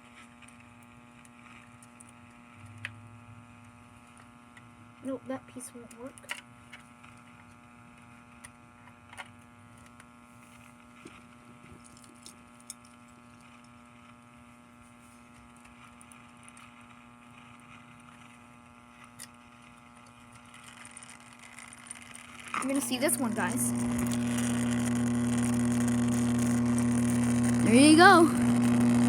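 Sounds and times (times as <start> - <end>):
faint electrical hum: 0.0 - 29.0.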